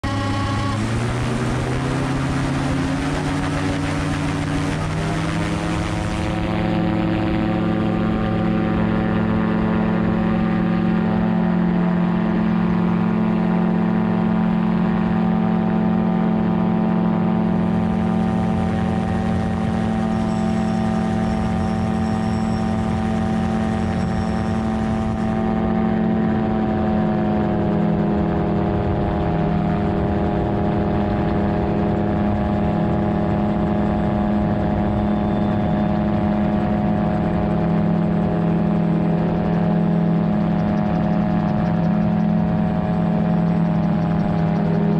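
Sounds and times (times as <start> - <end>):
aircraft engine and propeller: 0.0 - 44.9.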